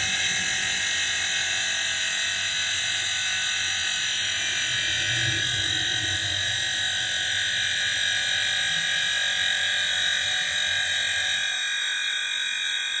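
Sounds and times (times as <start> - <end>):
high-pitched compressor buzz: 0.0 - 13.0.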